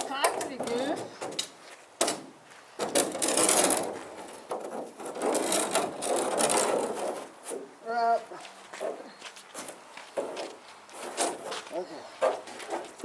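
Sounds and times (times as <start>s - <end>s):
rattling and scraping of handling: 0.0s - 13.0s.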